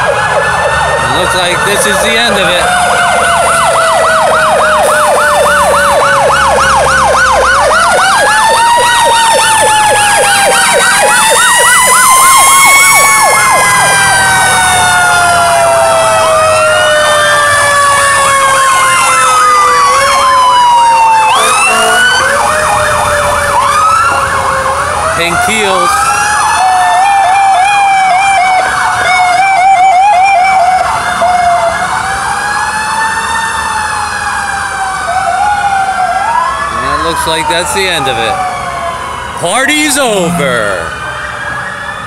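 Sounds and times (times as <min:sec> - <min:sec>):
fast yelping sirens: 0:00.0 - 0:42.0
wailing sirens: 0:00.0 - 0:42.0.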